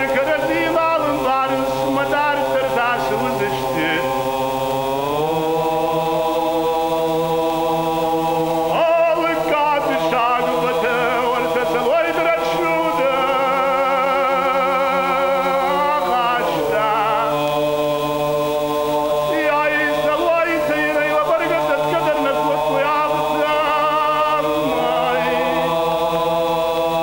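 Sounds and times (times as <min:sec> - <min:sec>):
male choir drone chord: 0:00.0 - 0:27.0
solo man singing ornamented melody: 0:00.0 - 0:27.0.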